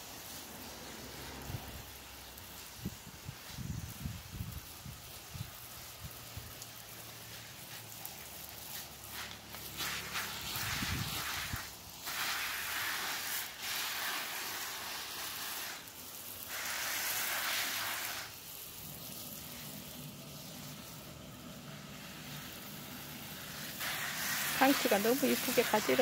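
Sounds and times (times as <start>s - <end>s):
hose spray hissing on soil: 0.0s - 26.0s.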